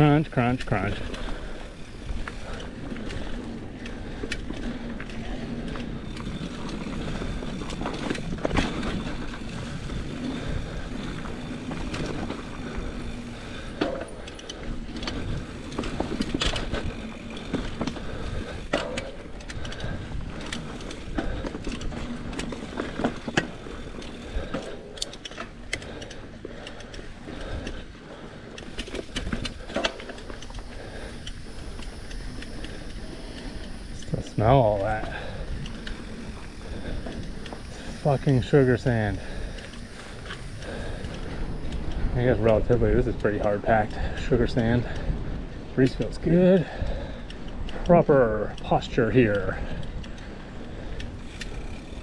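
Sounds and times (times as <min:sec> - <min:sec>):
bike tyres crunching through sand: 0:00.0 - 0:47.2, 0:48.1 - 0:52.0
bike chain rattling: 0:00.0 - 0:52.0.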